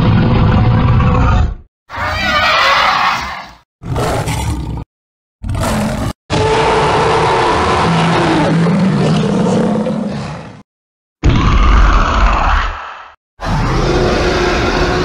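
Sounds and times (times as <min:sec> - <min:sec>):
dinosaur roar: 0:00.0 - 0:10.6, 0:11.2 - 0:15.0.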